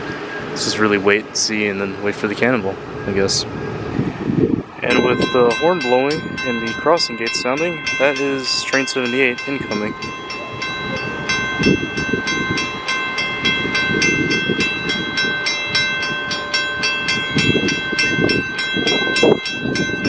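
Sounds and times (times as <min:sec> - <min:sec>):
crossing warning bell ringing: 0:00.0 - 0:20.0
train rumble: 0:00.0 - 0:20.0.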